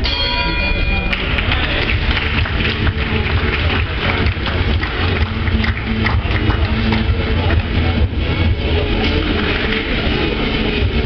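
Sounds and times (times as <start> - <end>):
crowd hubbub: 0.0 - 11.0
heavy low rumble: 1.2 - 11.0.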